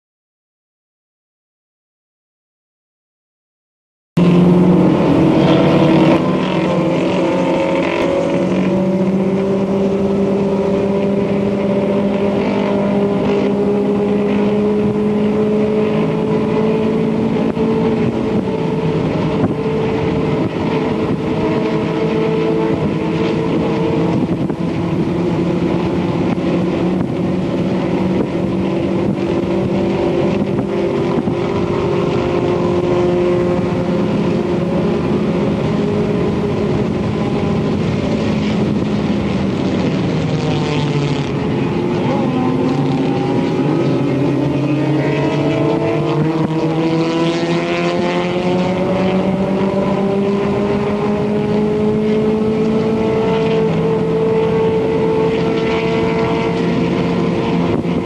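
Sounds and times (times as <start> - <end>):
race car engine running hard: 4.2 - 58.0.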